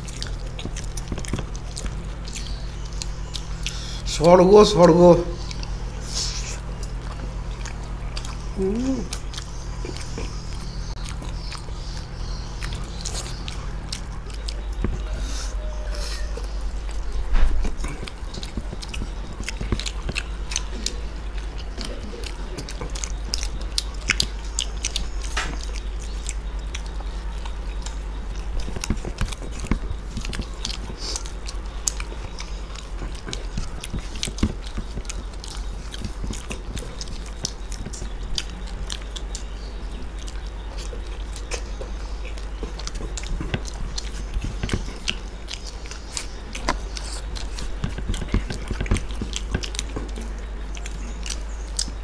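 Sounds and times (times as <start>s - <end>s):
chewing and biting: 0.0s - 52.0s
steady low hum: 0.0s - 52.0s.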